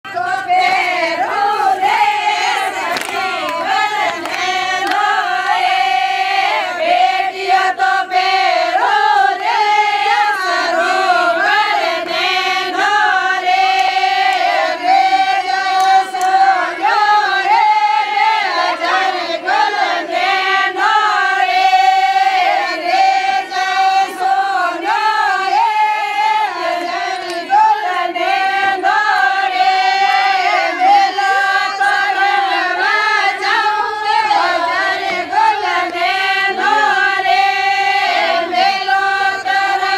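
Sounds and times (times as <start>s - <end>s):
women singing folk song in chorus: 0.0s - 39.9s.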